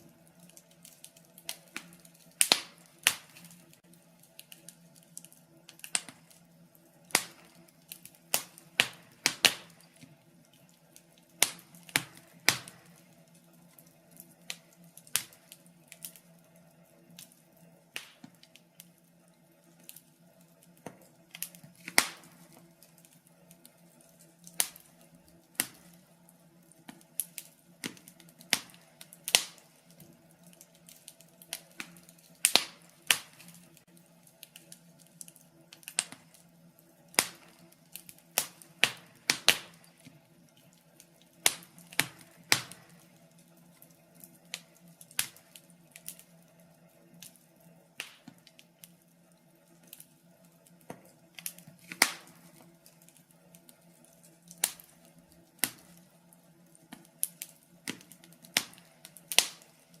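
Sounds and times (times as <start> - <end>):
faint steady hum: 0.0 - 60.0
logs crackling in a fireplace: 0.0 - 60.0.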